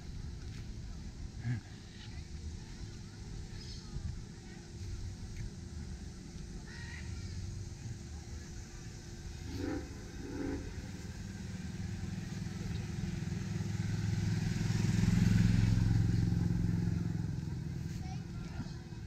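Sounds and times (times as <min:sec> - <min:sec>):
utility cart engine driving past: 0:00.0 - 0:19.0.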